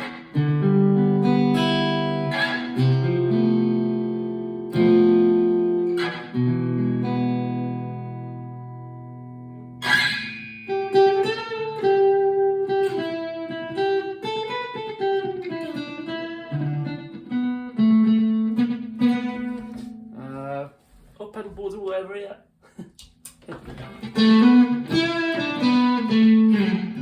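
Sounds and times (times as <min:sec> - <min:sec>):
acoustic guitar chords ringing: 0:00.0 - 0:20.7, 0:23.8 - 0:27.0
picked guitar melody with slides: 0:00.0 - 0:20.7, 0:23.6 - 0:27.0.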